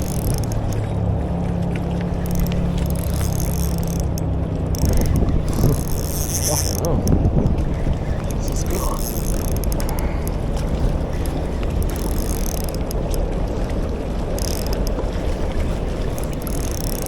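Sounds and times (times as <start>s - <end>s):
faint clicks: 0.0s - 1.0s, 1.7s - 7.6s, 8.2s - 13.3s, 14.3s - 15.0s, 15.6s - 17.0s
low rumbling background noise: 0.0s - 17.0s.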